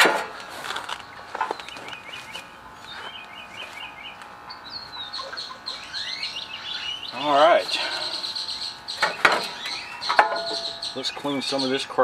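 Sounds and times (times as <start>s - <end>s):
small birds chirping: 0.8s - 12.0s.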